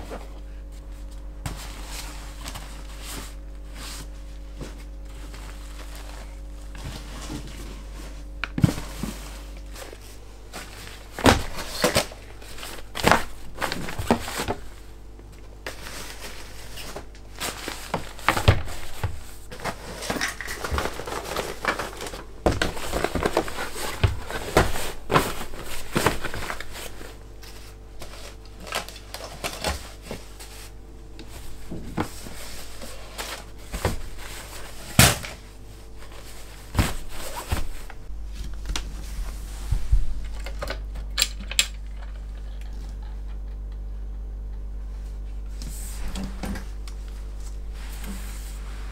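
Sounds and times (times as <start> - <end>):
fabric sacks rustling: 0.0 - 40.2.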